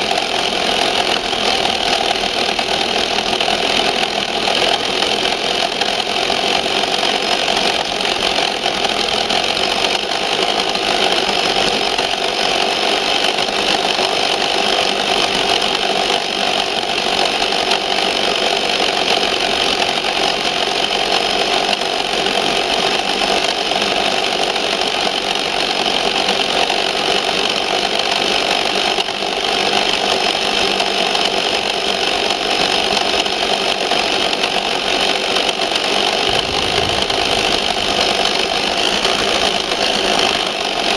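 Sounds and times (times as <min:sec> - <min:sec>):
toy truck motor whine: 0:00.0 - 0:40.9.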